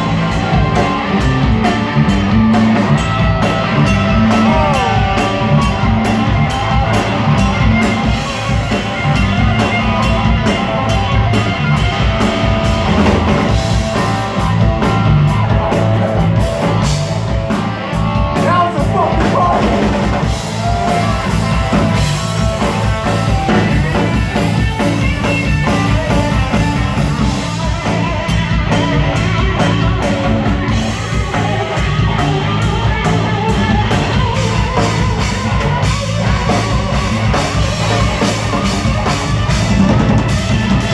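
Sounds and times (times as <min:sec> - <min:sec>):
drum kit beat: 0:00.0 - 0:40.9
electric bass: 0:00.0 - 0:40.9
electric guitar lines: 0:00.0 - 0:40.9.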